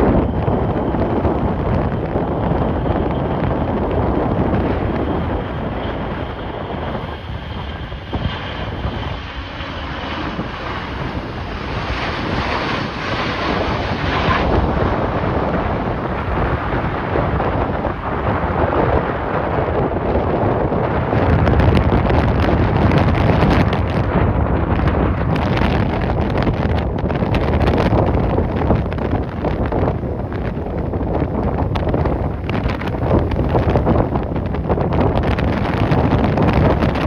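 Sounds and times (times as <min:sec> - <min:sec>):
jet engine whine: 0:00.0 - 0:37.0
wind buffeting microphone: 0:00.0 - 0:37.0.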